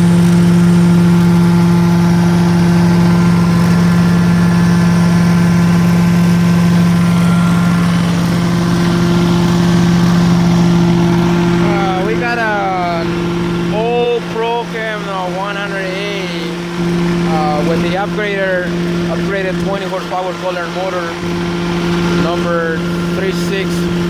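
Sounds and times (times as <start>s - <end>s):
engine and blower hum: 0.0s - 24.0s
high whine: 0.0s - 24.0s.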